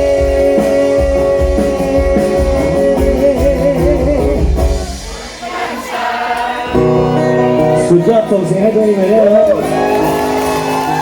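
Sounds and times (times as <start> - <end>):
live band bass and drums: 0.0 - 11.0.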